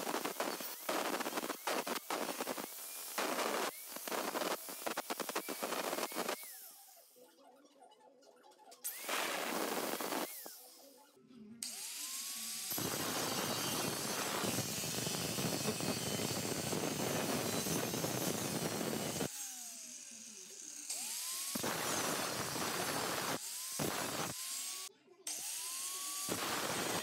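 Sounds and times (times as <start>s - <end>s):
angle grinder grinding metal: 0.0s - 6.8s, 8.8s - 11.0s, 11.6s - 27.0s.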